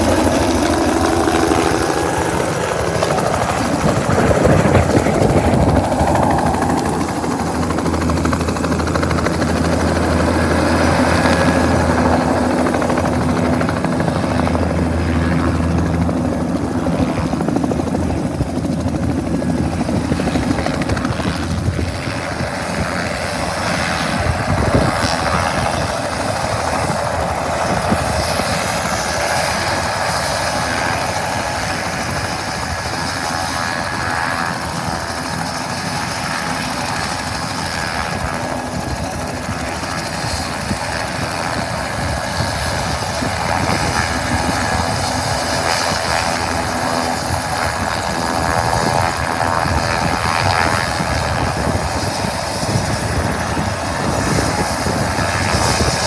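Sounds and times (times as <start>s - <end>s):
helicopter idling: 0.0s - 56.0s.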